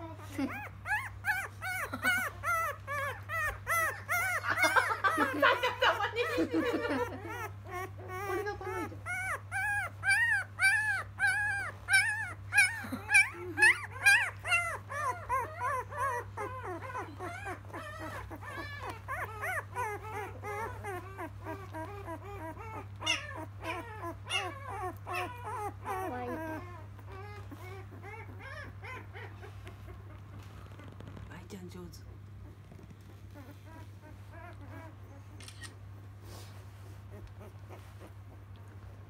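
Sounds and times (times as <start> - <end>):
puppy whimpering and squealing: 0.1 - 39.0.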